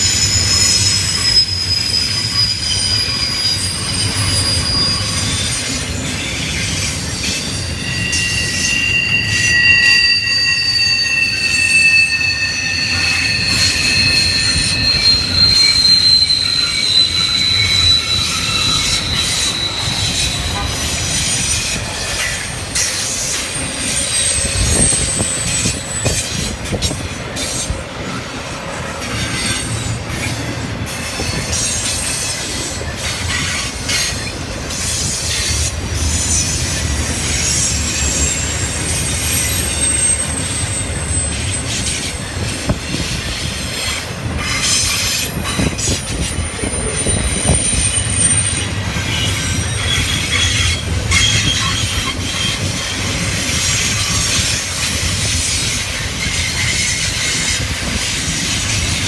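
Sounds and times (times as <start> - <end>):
freight train clattering on rails: 0.0 - 9.6, 12.8 - 59.0
wheel squeals: 0.0 - 59.0.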